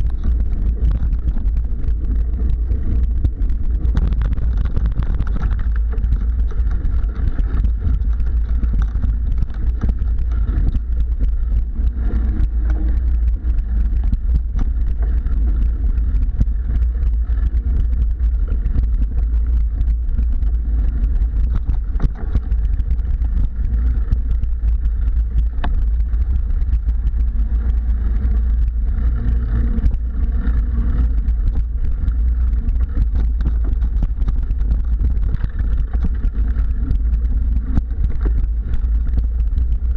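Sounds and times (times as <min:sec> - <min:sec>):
bike rattling and knocking: 0:00.0 - 0:39.9
wind rumble on microphone: 0:00.0 - 0:39.9.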